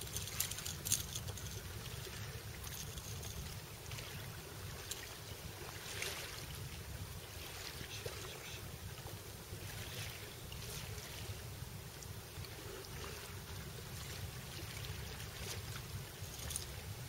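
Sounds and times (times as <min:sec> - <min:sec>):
water splashes: 0:00.0 - 0:17.0.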